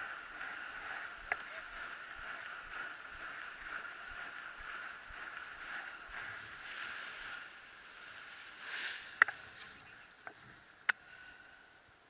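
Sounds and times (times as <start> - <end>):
steady rushing noise: 0.0 - 10.1.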